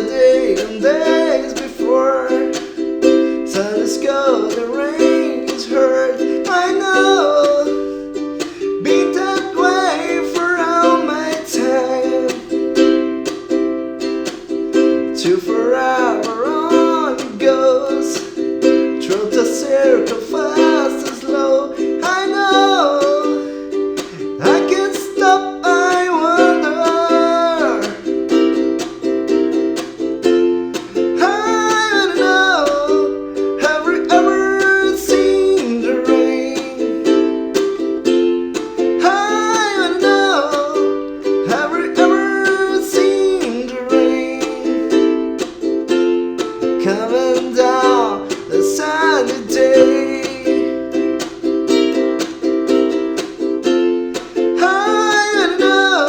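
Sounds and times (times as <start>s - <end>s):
ukulele strumming with melody: 0.0s - 56.0s.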